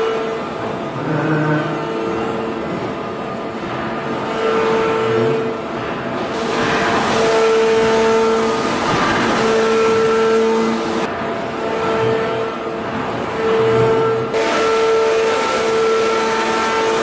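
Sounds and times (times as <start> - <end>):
forging press machine noise: 0.0 - 17.0
hydraulic hum: 0.0 - 17.0.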